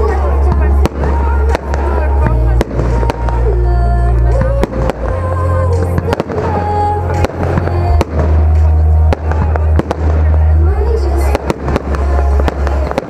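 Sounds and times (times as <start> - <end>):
fireworks bangs: 0.0 - 13.0
loud music with deep bass: 0.0 - 13.0.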